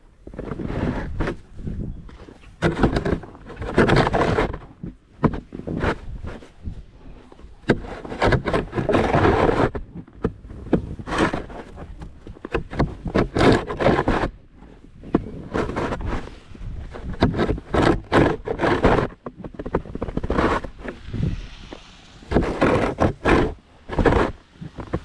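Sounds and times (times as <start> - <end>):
snow shovel scraping: 0.2 - 25.0.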